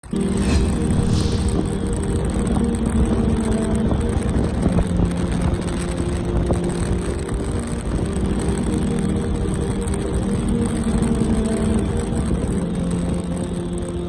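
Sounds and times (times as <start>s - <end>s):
engine running with low rumble: 0.0s - 14.0s.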